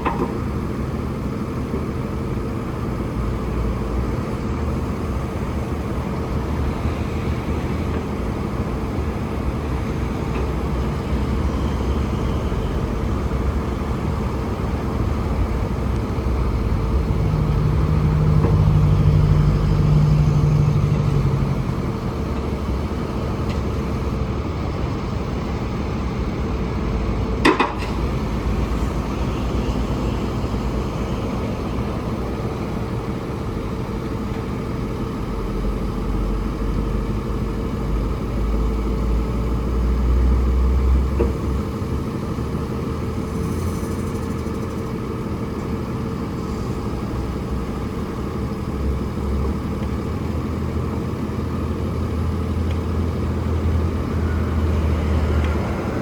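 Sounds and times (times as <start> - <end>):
diesel truck engine revving: 0.0 - 56.0
steady whine: 0.0 - 56.0.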